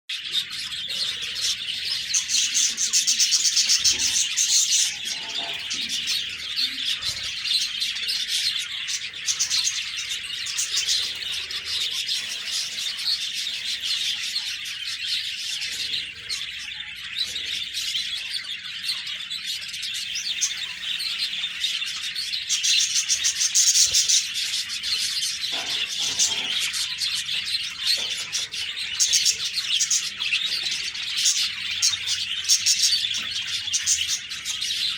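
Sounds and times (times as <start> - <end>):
budgerigars chattering: 0.1 - 34.9.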